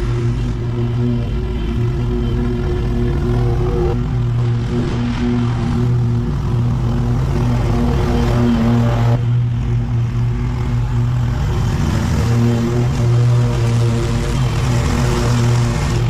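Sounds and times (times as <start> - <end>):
small petrol engine running: 0.0 - 16.0.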